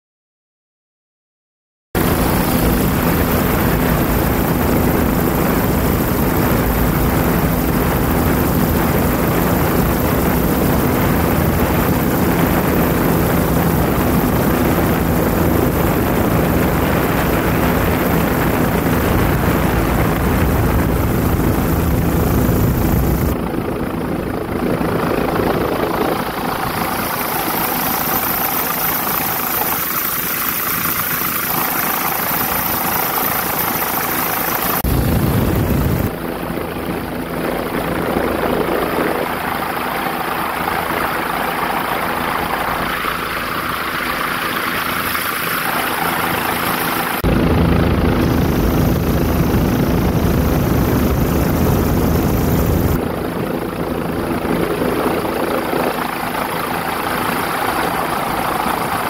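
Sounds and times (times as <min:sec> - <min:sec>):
aircraft engine noise: 0:02.0 - 0:59.0.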